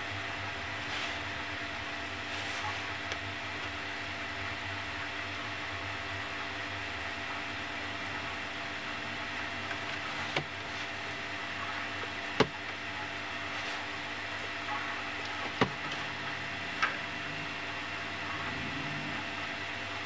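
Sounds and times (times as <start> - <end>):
workshop hum and hiss: 0.0 - 20.0.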